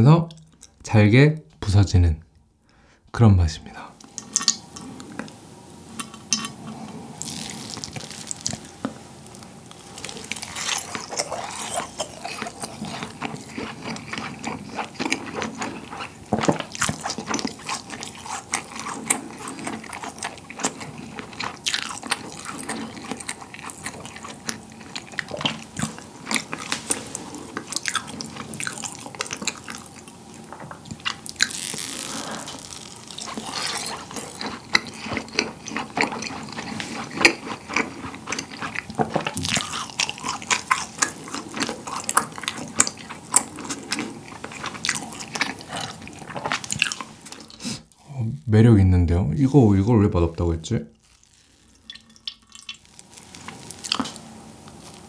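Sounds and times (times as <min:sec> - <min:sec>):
wet chewing: 0:04.0 - 0:48.0, 0:50.9 - 0:55.0.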